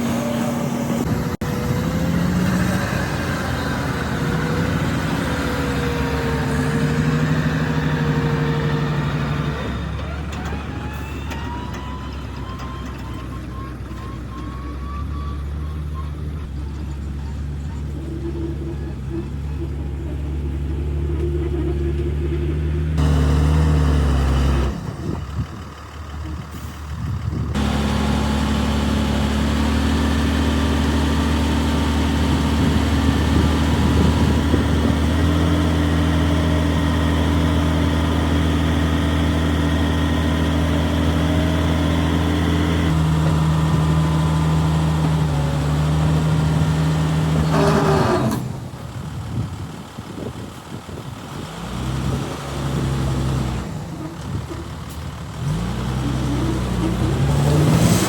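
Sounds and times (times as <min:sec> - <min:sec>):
heavy diesel engine working: 0:00.0 - 0:58.0.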